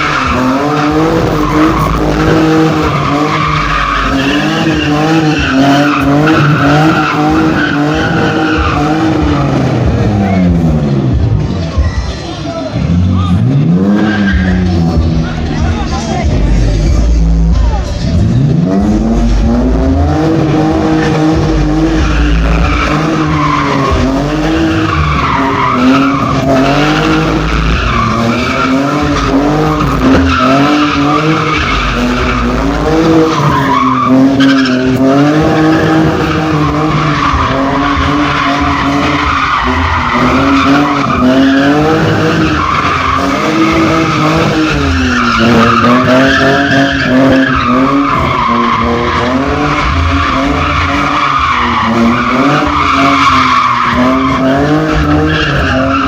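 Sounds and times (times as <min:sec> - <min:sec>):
car engine revving: 0:00.0 - 0:56.0
tyres skidding and squealing: 0:00.0 - 0:56.0.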